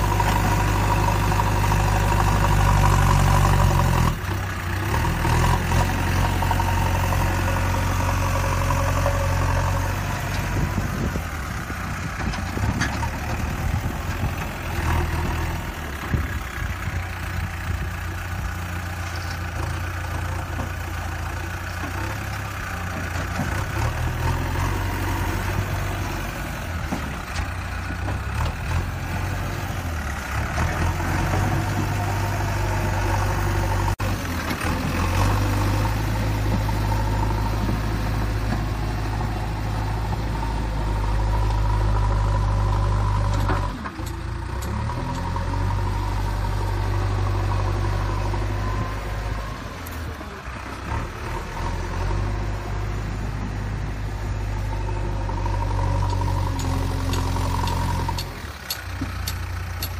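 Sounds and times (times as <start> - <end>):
low engine rumble: 0.0 - 59.9.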